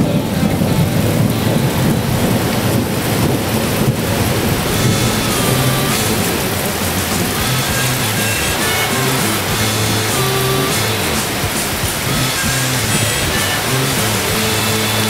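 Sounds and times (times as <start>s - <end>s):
heavy rain: 0.0s - 15.0s
thunder rumbling: 0.0s - 15.0s.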